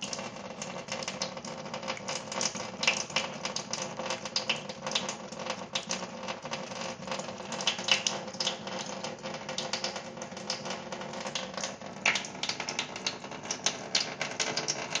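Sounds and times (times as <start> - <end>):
tap water trickling: 0.0 - 15.0.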